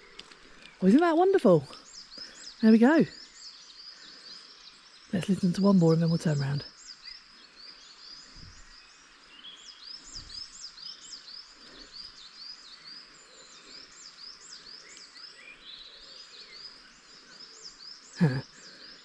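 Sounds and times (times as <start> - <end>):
birds singing: 0.0 - 19.0.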